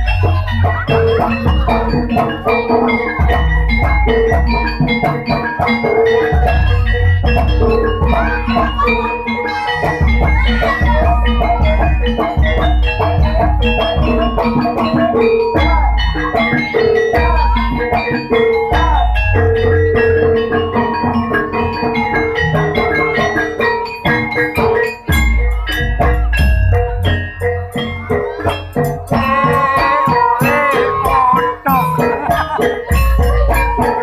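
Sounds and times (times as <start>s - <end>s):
drumming: 0.0s - 34.0s
gong-chimes and metallophones ringing: 0.0s - 34.0s
wavering melody line: 0.0s - 34.0s.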